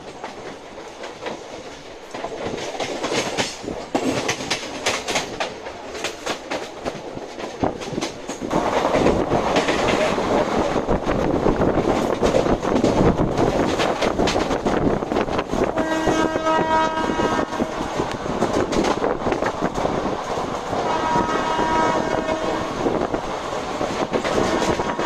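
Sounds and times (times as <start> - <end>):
train rumble: 0.0 - 25.0
train wheels clattering over rail joints: 0.0 - 25.0.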